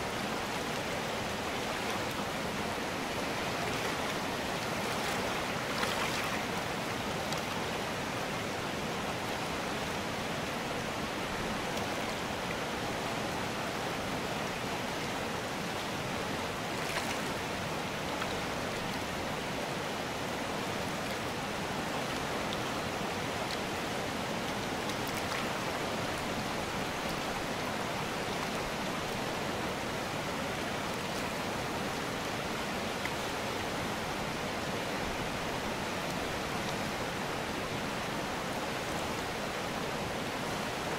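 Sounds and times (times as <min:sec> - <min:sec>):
river rushing over stones: 0:00.0 - 0:40.9.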